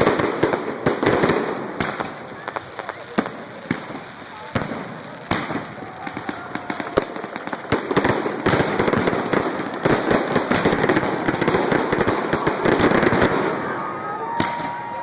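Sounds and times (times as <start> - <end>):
fireworks bursting with sharp bangs: 0.0 - 15.0
fireworks crackle: 0.0 - 15.0.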